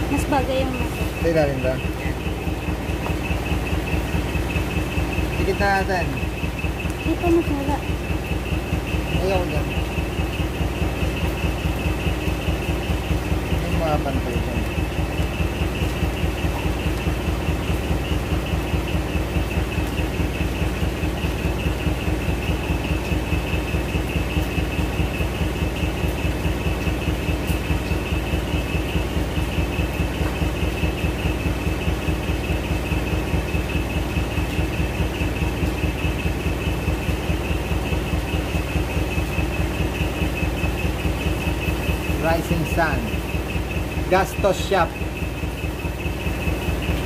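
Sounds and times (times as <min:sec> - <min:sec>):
truck engine idling: 0:00.0 - 0:47.0.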